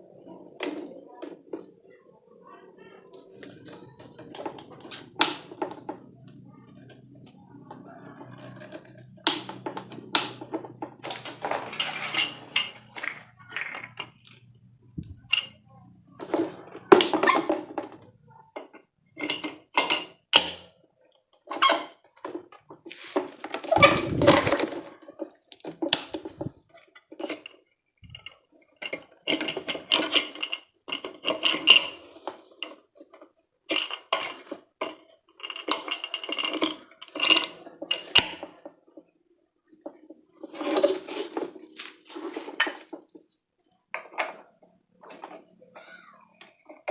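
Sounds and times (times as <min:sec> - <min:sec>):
plastic parts clicking and rustling: 0:03.1 - 0:15.6, 0:16.2 - 0:39.1, 0:39.7 - 0:46.9.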